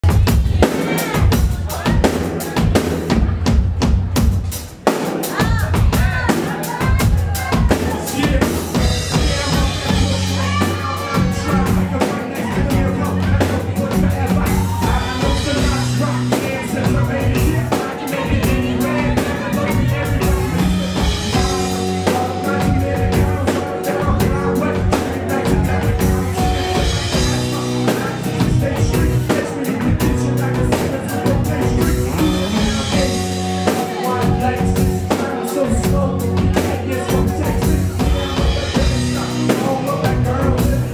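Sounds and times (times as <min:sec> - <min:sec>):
drum kit beat: 0:00.0 - 0:40.9
live band playing pop song: 0:00.0 - 0:40.9.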